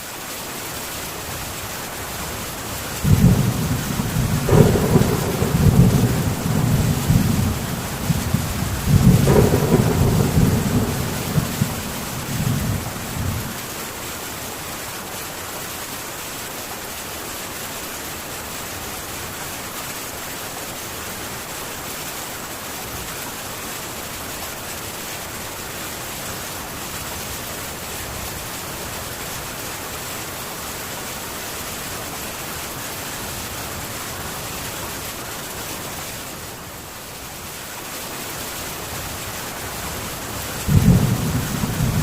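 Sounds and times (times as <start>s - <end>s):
heavy rain on a tin roof: 0.0s - 42.0s.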